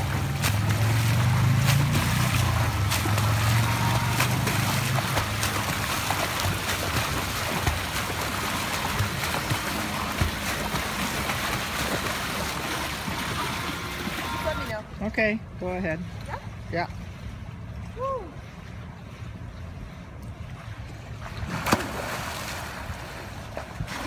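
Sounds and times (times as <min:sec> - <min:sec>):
low steady hum: 0:00.0 - 0:24.0
water splashing from swimming: 0:00.0 - 0:24.0.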